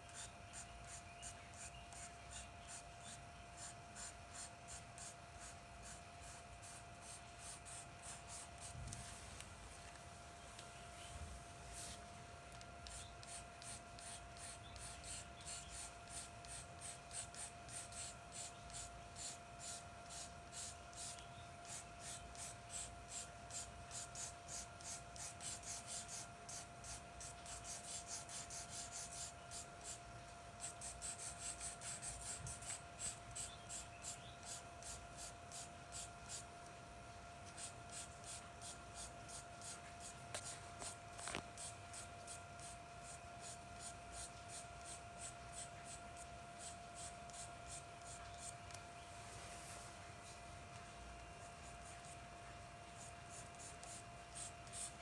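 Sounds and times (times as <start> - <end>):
faint steady hum: 0.0 - 55.0
charcoal pencil scratching on paper: 0.1 - 8.8, 12.8 - 30.0, 30.6 - 36.4, 37.5 - 46.0, 46.6 - 48.7, 51.5 - 52.2, 53.0 - 54.9.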